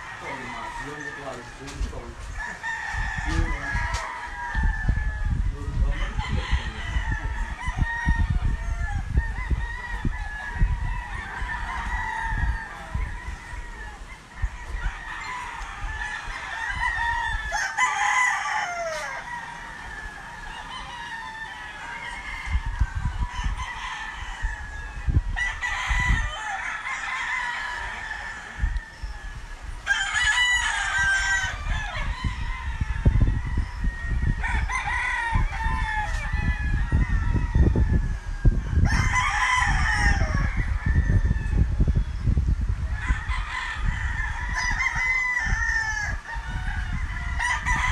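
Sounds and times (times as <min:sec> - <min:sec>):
roosters crowing: 0:00.0 - 0:47.9.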